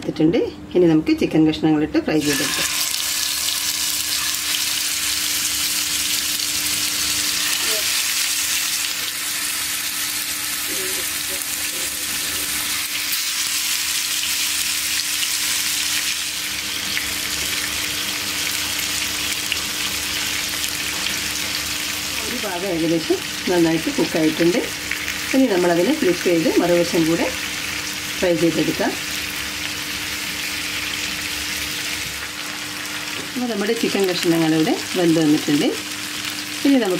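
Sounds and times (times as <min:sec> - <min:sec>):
chicken sizzling in hot oil: 0:02.2 - 0:36.9.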